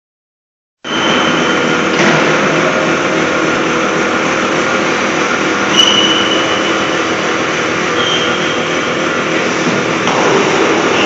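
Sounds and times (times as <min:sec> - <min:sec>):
high machine whine: 0:00.9 - 0:11.0
milling machine running: 0:01.0 - 0:11.0.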